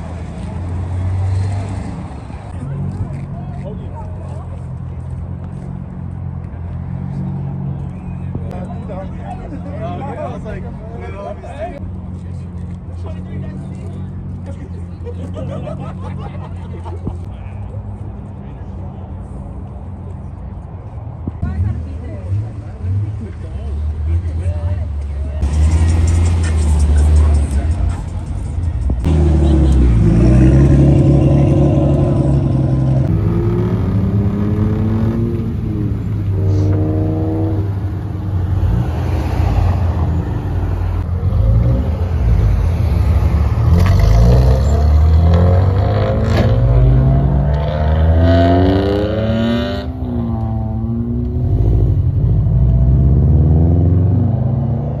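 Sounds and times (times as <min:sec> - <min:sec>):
car engines revving and accelerating: 0:00.0 - 0:55.0.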